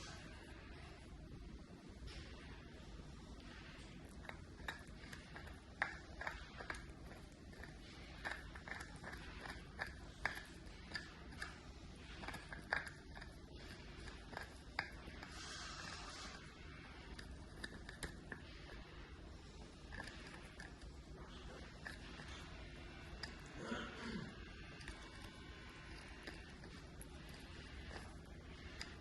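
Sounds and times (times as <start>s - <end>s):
puppy gnawing on antler: 3.8s - 23.7s, 24.3s - 29.0s.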